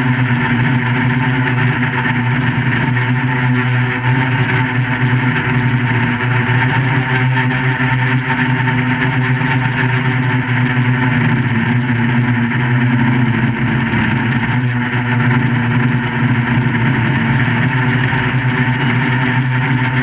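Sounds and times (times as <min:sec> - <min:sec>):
quadcopter motors and propellers: 0:00.0 - 0:20.0.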